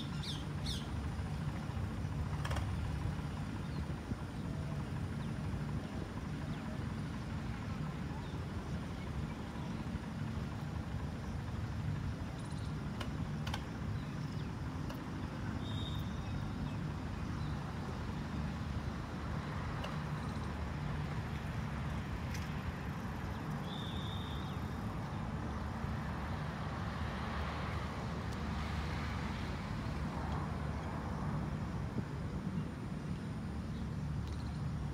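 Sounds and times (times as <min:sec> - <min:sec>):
low outdoor rumble: 0:00.0 - 0:34.9.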